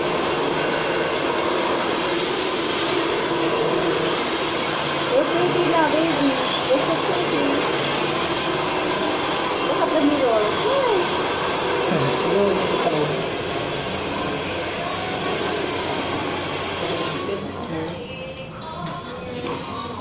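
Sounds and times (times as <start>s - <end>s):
hair dryer running: 0.0s - 17.8s.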